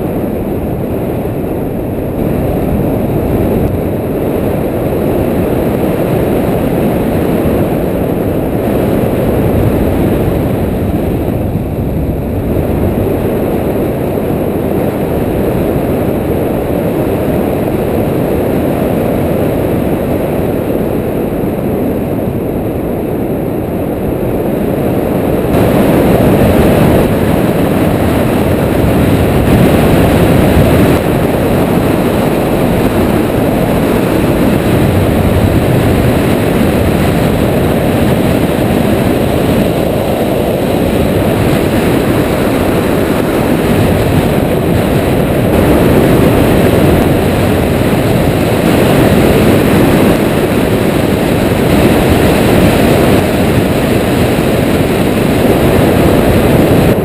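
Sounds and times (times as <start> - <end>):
wind rush buffeting microphone: 0.0 - 57.0.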